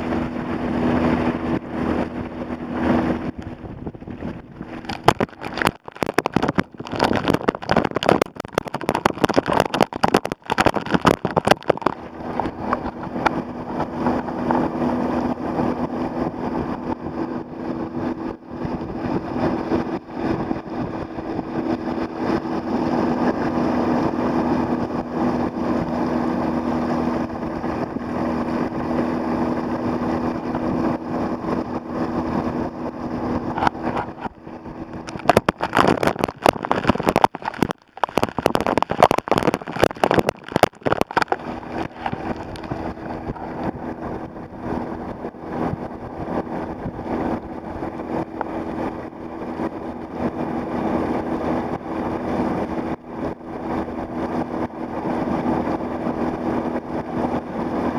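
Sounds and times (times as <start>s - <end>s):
outboard motor hum: 0.0s - 57.9s
water rushing past a kayak: 0.0s - 57.9s.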